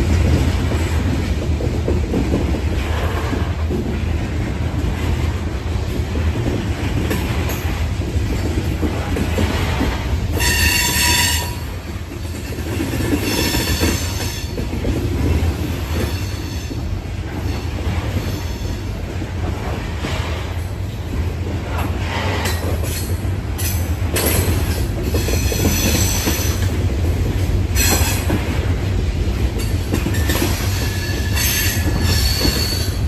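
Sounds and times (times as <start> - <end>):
freight train rumble: 0.0 - 33.0.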